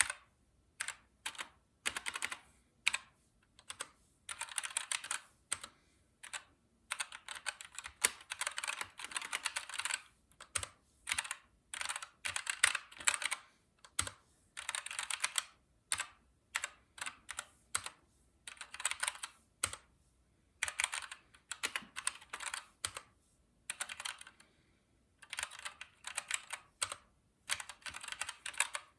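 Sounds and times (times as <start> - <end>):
mechanical keyboard typing: 0.0 - 19.9, 20.6 - 23.1, 23.7 - 24.4, 25.2 - 28.9.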